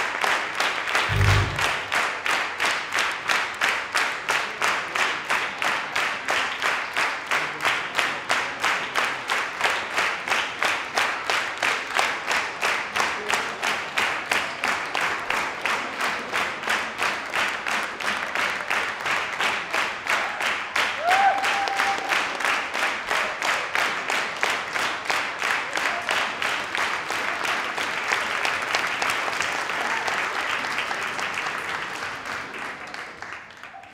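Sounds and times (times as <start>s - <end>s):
audience clapping: 0.0s - 33.9s.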